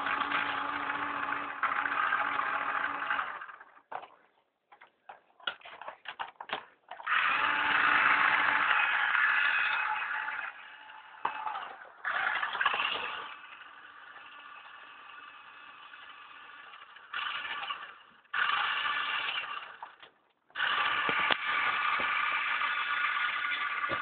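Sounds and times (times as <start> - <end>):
toy car electric motor whining: 0.0 - 3.9, 6.9 - 24.0
toy car rattling and scraping: 0.0 - 24.0.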